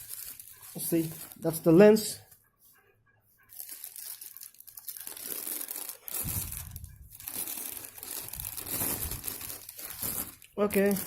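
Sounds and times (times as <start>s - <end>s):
packaging crinkling and rustling: 0.0s - 1.7s, 3.5s - 11.0s.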